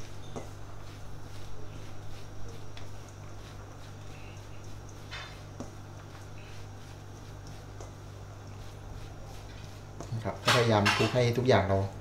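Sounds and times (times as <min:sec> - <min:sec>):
hand squishing rice mixture: 0:00.0 - 0:12.0
steady low hum: 0:00.0 - 0:12.0.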